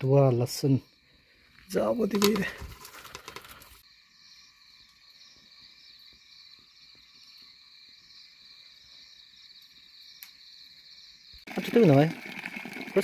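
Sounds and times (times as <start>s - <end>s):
insects pulsing trill: 0.0s - 13.0s
lower insect chorus: 0.0s - 13.0s.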